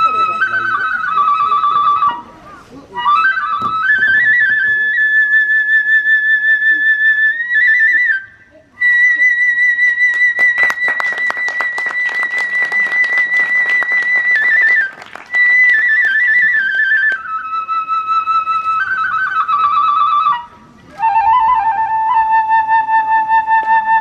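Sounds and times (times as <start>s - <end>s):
bamboo flute high held notes: 0.0s - 24.0s.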